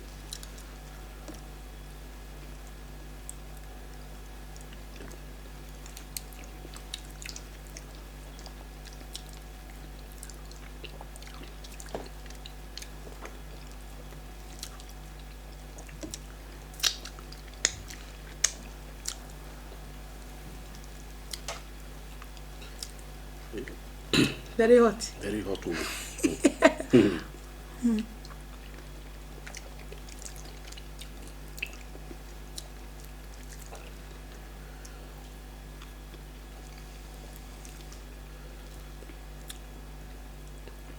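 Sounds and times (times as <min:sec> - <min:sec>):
steady low hum: 0:00.0 - 0:40.9
chewing with wet clicks: 0:00.3 - 0:01.4, 0:02.6 - 0:19.8, 0:20.6 - 0:23.8, 0:28.2 - 0:39.8.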